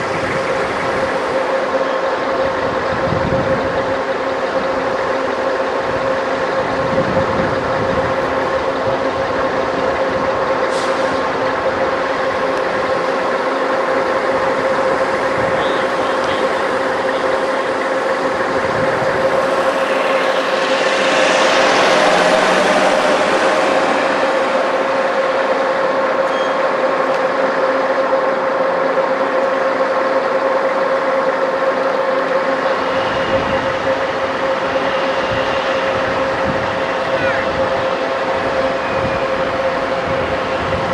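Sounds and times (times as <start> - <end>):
heavy vehicle engines and road noise: 0.0 - 40.9.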